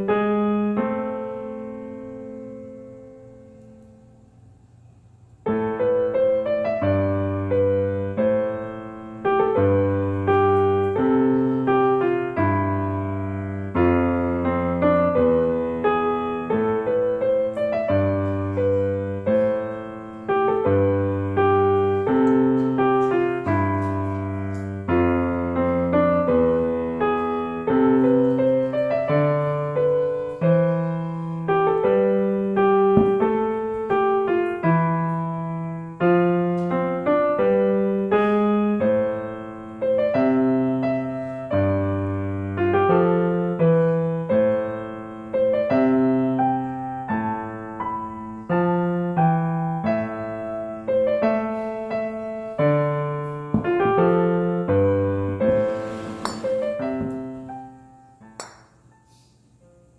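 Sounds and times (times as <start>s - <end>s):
slow piano music: 0.0s - 59.9s.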